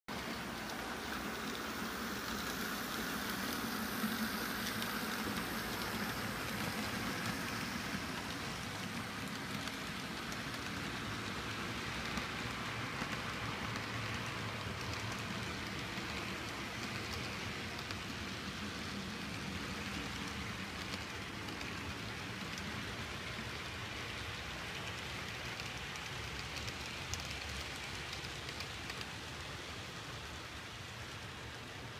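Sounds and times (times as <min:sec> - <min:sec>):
model train wheels on track: 0:00.1 - 0:31.9.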